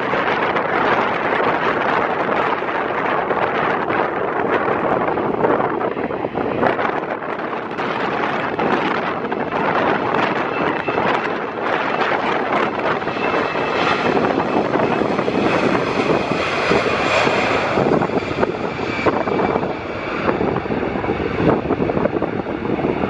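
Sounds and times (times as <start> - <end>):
jet engines roaring: 0.0 - 23.0
wind buffeting microphone: 0.0 - 23.0.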